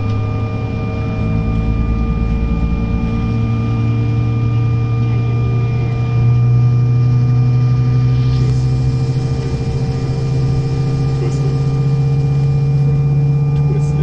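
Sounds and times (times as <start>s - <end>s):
low cabin hum: 0.0s - 14.0s
steady whining tones: 0.0s - 14.0s.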